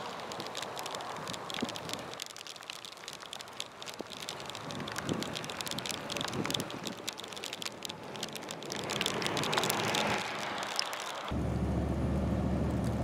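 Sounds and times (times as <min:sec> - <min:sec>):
snow pellets ticking on car: 0:00.0 - 0:11.3.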